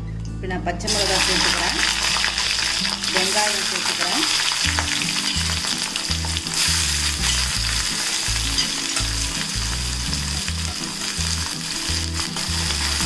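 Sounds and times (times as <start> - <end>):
onions sizzling in hot oil: 0.9 - 13.0.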